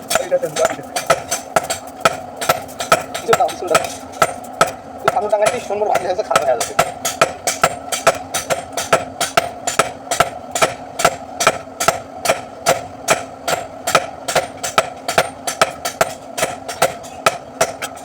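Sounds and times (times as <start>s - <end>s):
hammer striking blade on anvil: 0.0s - 18.0s.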